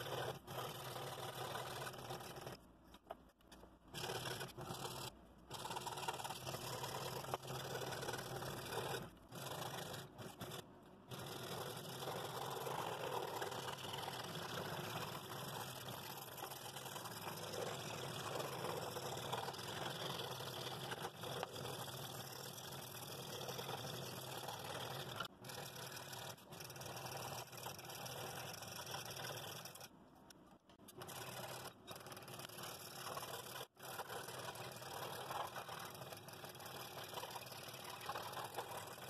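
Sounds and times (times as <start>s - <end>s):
scroll saw cutting wood: 0.0s - 2.6s, 3.5s - 30.0s, 30.8s - 39.0s.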